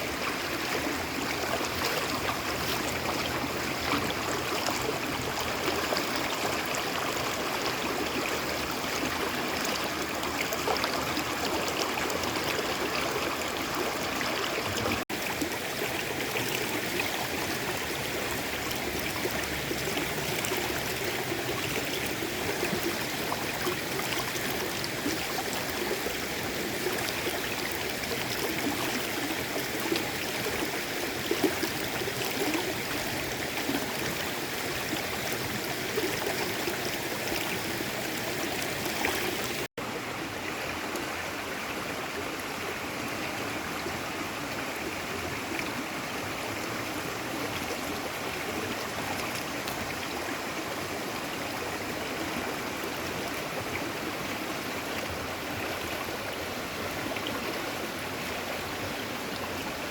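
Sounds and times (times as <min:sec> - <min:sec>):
stream water running: 0:00.0 - 0:59.9.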